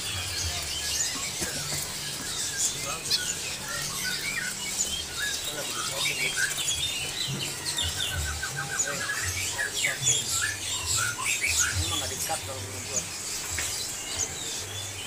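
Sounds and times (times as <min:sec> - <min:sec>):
caged songbirds chirping: 0:00.0 - 0:15.0.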